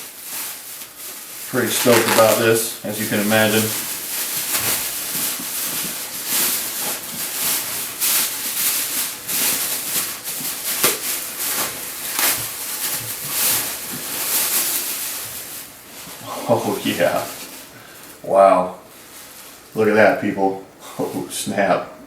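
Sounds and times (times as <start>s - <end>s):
packaging rustling and crinkling: 0.0s - 19.8s.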